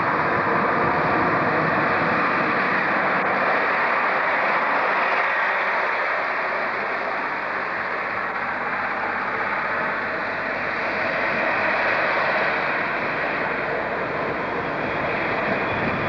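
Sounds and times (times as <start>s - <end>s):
diesel train rumbling: 0.0s - 16.0s.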